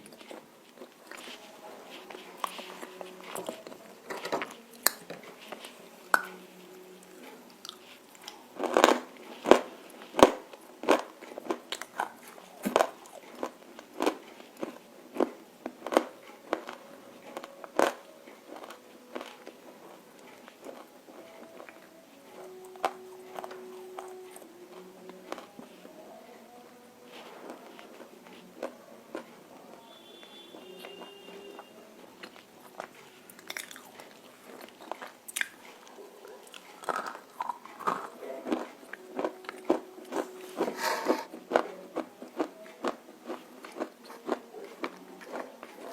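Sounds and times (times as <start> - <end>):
crunchy chewing: 0.0 - 26.4, 27.0 - 45.9.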